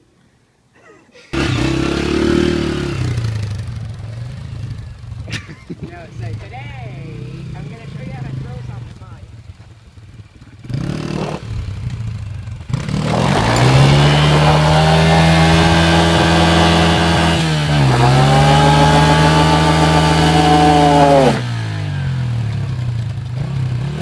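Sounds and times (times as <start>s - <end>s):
dirt bike engine revving: 1.3s - 24.0s.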